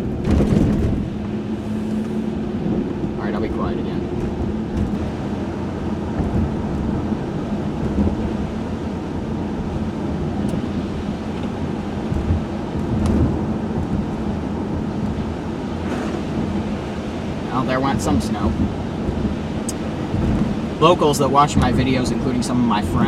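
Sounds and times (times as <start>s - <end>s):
car engine hum: 0.0s - 23.0s
low rumbles: 0.0s - 23.0s
tyres on wet road: 0.0s - 23.0s.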